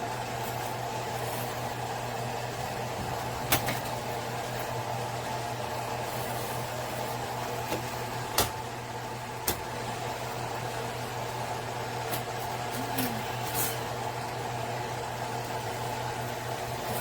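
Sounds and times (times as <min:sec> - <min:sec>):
hob cooling fan humming: 0:00.0 - 0:17.0.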